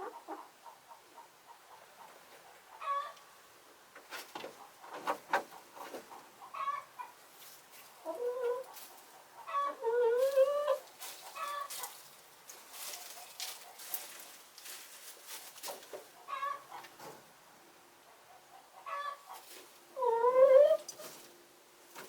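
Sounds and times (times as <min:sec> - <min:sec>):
hens clucking: 0:00.0 - 0:17.3, 0:18.0 - 0:22.0.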